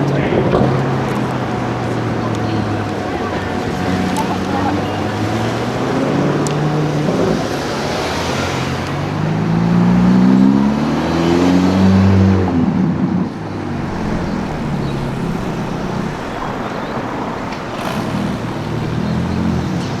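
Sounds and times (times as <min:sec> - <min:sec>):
car engine accelerating: 0:00.0 - 0:20.0
street traffic: 0:00.0 - 0:20.0.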